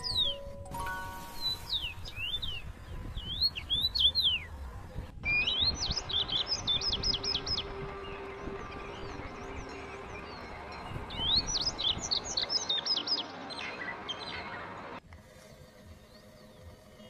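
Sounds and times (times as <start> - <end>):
small birds chirping: 1.2 - 17.0.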